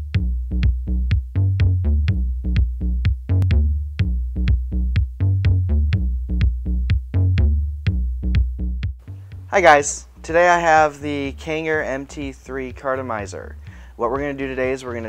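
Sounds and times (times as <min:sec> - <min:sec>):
electronic music with drum beat: 0:00.0 - 0:15.0.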